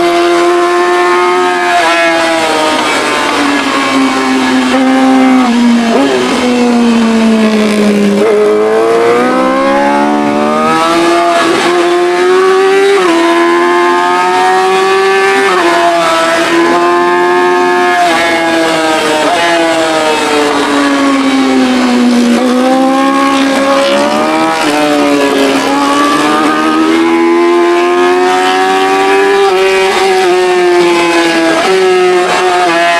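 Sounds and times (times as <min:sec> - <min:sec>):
motorcycle engine running hard: 0:00.0 - 0:32.9.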